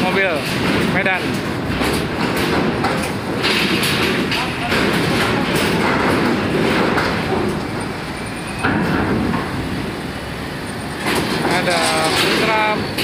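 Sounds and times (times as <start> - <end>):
vehicle engines and rolling rumble: 0.0 - 13.0.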